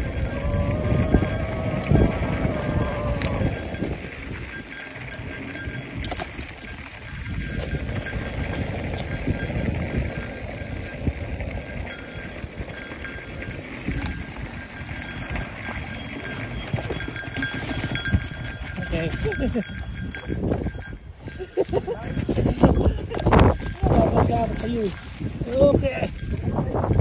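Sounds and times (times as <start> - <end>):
tyres rolling on loose dirt: 0.0 - 26.6
bike rattling over bumps: 0.0 - 27.0.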